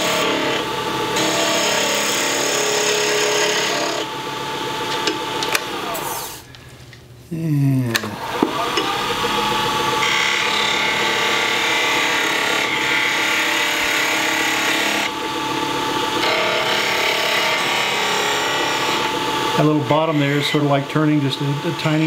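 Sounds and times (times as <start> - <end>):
gouge scraping spinning wood: 0.0 - 6.3, 8.2 - 22.0
lathe motor spinning: 0.0 - 6.5, 8.0 - 22.0.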